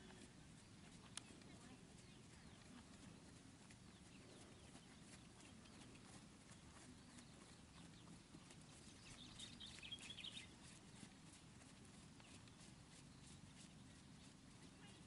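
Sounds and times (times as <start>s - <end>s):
hoofbeats on sand: 0.0s - 15.0s.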